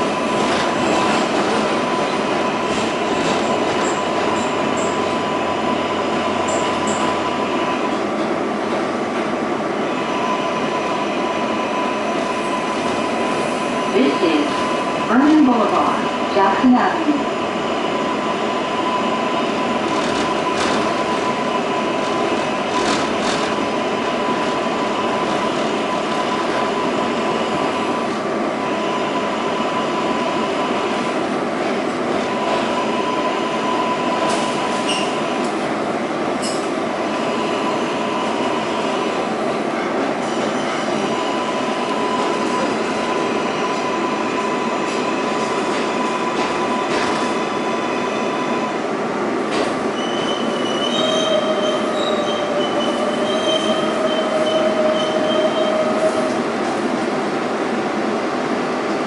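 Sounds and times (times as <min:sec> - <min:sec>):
subway car rumble on rails: 0:00.0 - 0:59.0.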